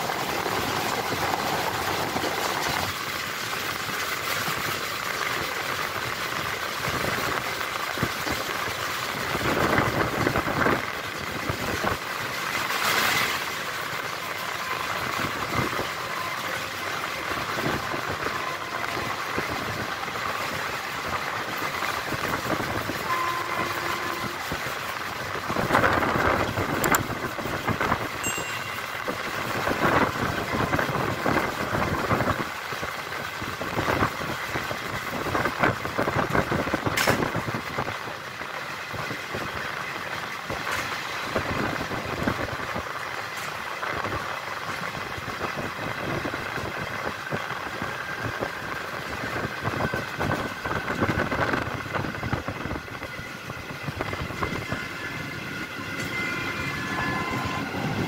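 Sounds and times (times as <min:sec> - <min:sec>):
train coaches rumbling and rattling: 0:00.0 - 0:58.0.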